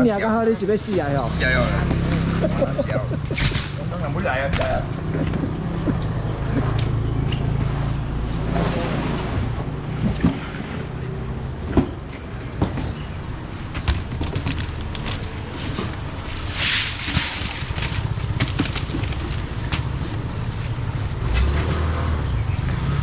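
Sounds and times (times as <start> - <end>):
low rumble of street noise: 0.0 - 23.0
knocks and clatter: 1.7 - 10.9, 11.6 - 21.6.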